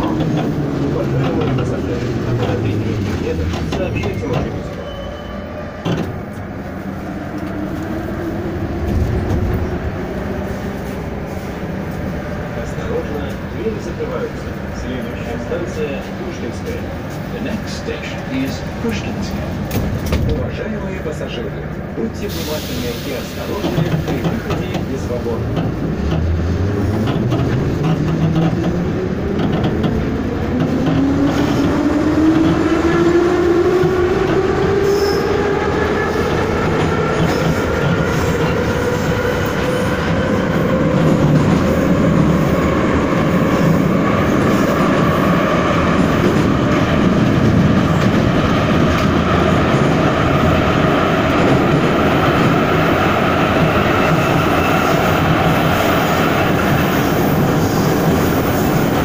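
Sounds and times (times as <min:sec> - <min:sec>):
wheels rumbling on rails: 0:00.0 - 0:59.0.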